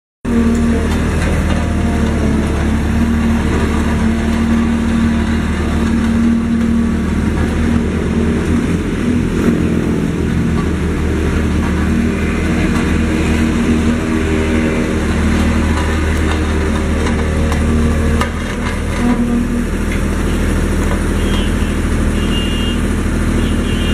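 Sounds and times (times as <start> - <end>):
road roller diesel engine running: 0.2 - 23.9.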